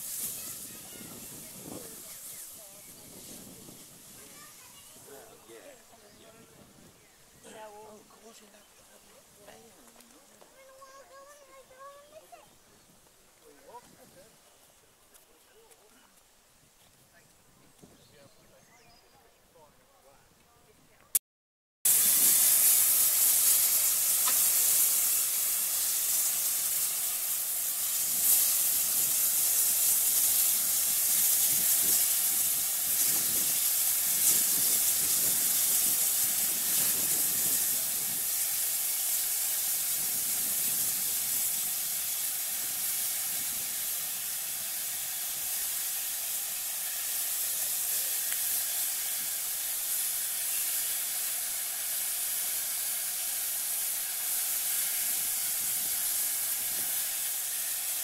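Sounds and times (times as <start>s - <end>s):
steam hissing from locomotive: 0.0s - 14.8s, 21.8s - 58.0s.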